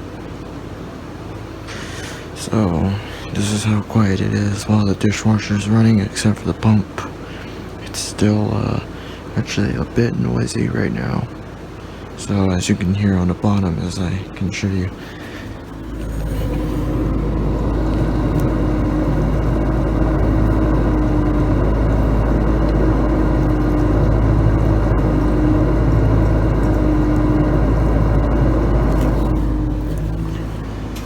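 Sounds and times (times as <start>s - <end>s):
dishwasher pump motor hum: 0.0s - 31.0s.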